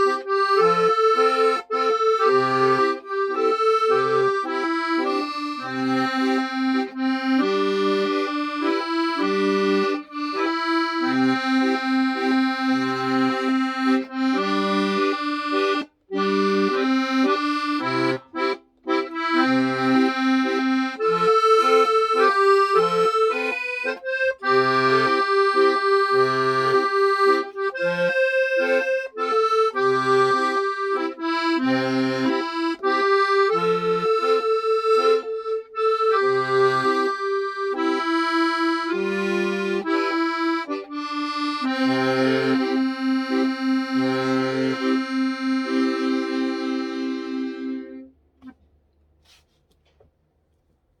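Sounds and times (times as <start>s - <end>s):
solo accordion tune: 0.0s - 48.6s.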